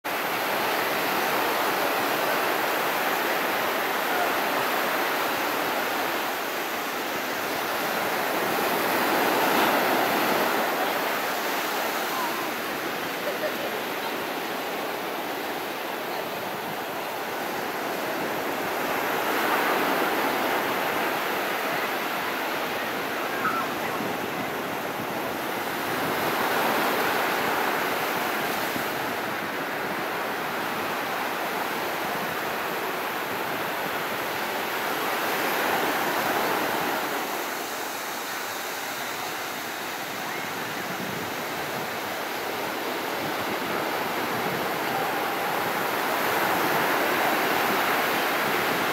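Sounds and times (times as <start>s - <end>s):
waves breaking on beach: 0.0s - 48.9s.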